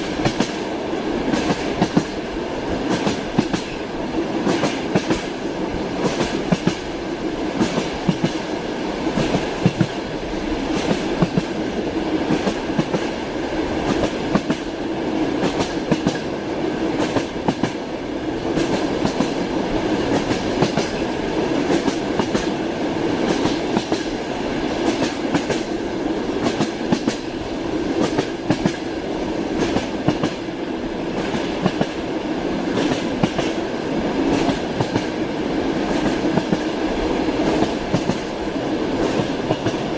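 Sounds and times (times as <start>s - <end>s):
train wheels clacking: 0.0s - 6.9s, 7.5s - 13.2s, 13.8s - 32.0s, 32.7s - 35.2s, 35.8s - 39.9s
train rolling rumble: 0.0s - 39.9s.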